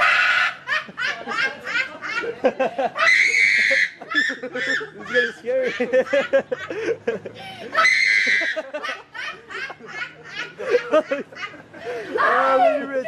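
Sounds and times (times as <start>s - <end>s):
high squeal of laughter: 0.0s - 2.2s, 2.8s - 6.0s, 7.7s - 12.9s
hearty laughter bursts: 0.2s - 12.2s.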